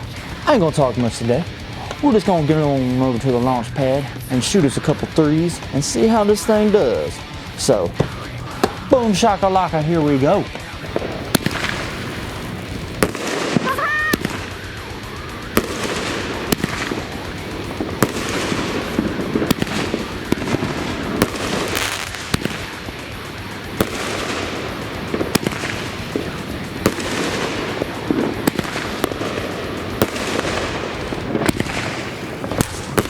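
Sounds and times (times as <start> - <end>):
firework crackling hiss: 0.0 - 33.0
firework shots firing: 0.0 - 33.0.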